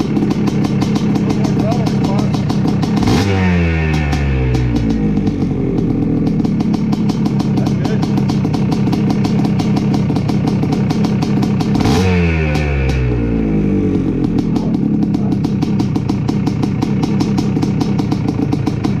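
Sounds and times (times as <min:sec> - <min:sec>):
dirt bike engine idling: 0:00.0 - 0:19.0
engine throttle blip: 0:00.0 - 0:19.0.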